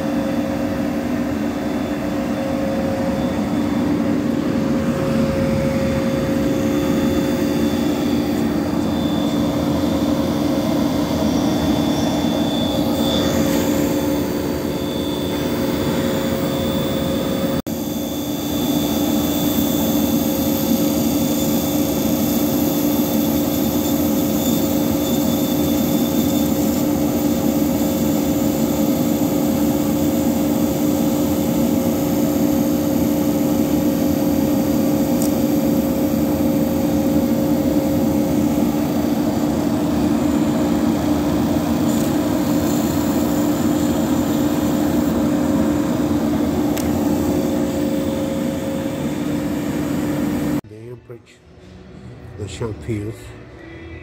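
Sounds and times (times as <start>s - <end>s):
electric motor humming and whining: 0.0s - 50.6s.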